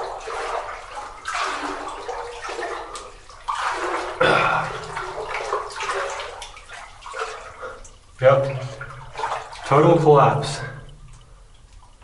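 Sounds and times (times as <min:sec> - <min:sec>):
legs sloshing through water: 0:00.0 - 0:12.0.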